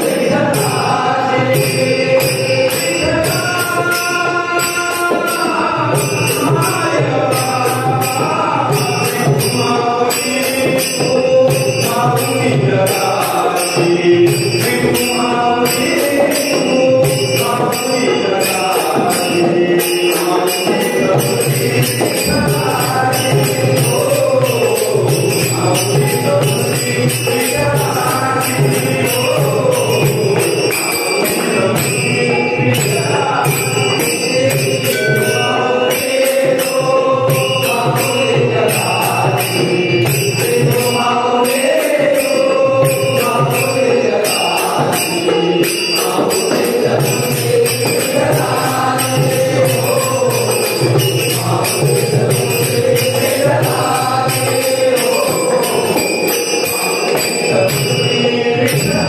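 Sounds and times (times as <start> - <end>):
devotional chant-like singing: 0.0 - 59.0
small hand cymbals jingling: 0.0 - 59.0.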